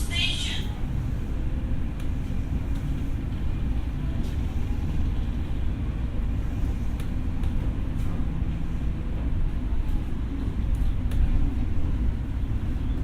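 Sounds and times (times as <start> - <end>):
train interior low rumble: 0.0 - 13.0.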